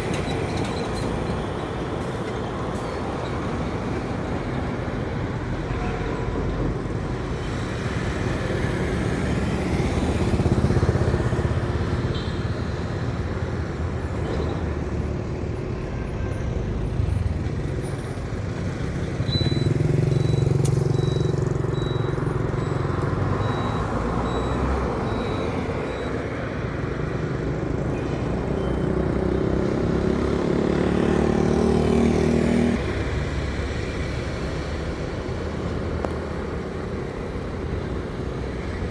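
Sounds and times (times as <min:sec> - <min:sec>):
trucks passing: 0:00.0 - 0:38.9.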